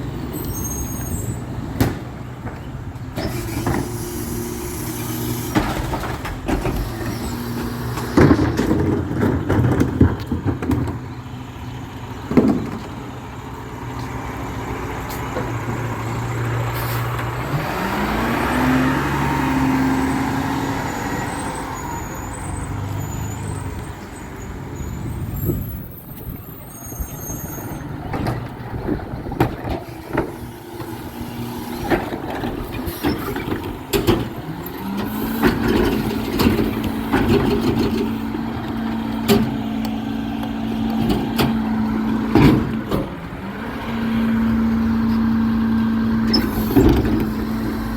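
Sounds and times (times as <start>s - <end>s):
garbage truck diesel engine: 0.0s - 47.9s.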